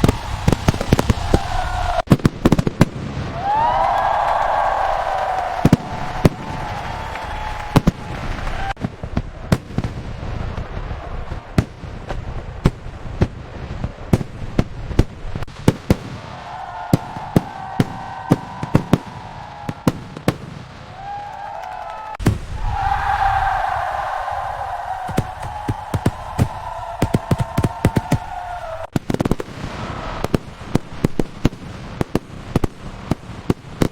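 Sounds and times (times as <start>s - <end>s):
distant fireworks rumbling: 0.0s - 33.9s
fireworks bangs and cracks: 0.0s - 33.9s.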